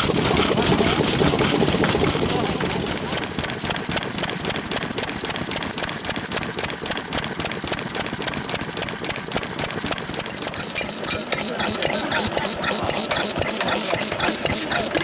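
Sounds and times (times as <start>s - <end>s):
stationary engines idling: 0.0s - 15.0s.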